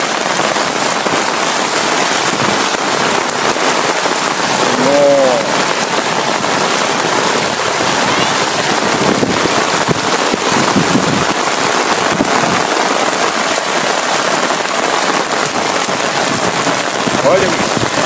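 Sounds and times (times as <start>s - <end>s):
floodwater running: 0.0s - 18.0s
heavy rain falling: 0.0s - 18.0s.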